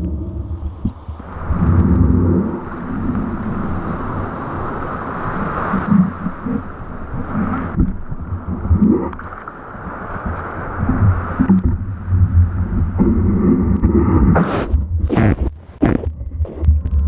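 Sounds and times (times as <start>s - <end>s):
surf water sloshing: 0.0s - 16.7s.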